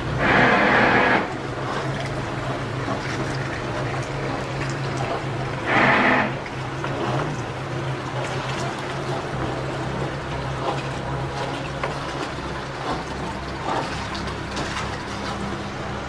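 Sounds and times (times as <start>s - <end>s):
boat engine humming: 0.0s - 16.0s
water noise: 0.0s - 16.0s.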